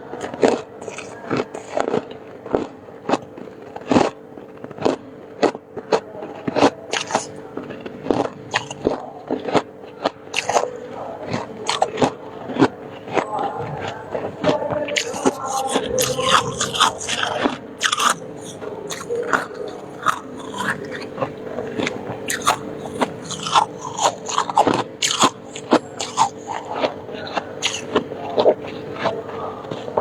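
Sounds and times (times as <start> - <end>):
faint steady hum: 0.0 - 30.0
crunching shaved ice: 0.2 - 30.0.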